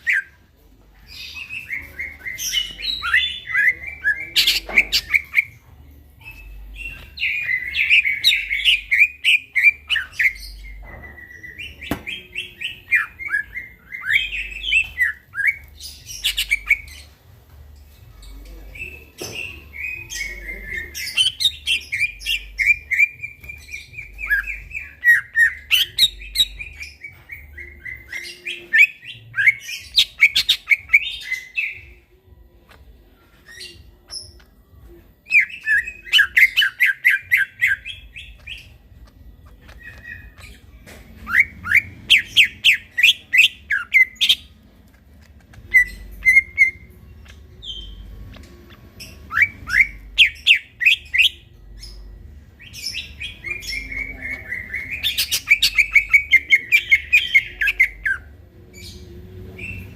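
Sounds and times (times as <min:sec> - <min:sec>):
bird chirping song: 0:00.0 - 0:59.9.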